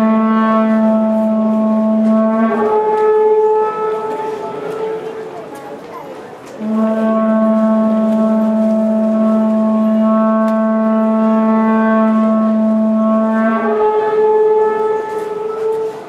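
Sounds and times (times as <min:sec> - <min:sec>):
conch-shell trumpets blowing: 0:00.0 - 0:05.6, 0:06.4 - 0:16.0.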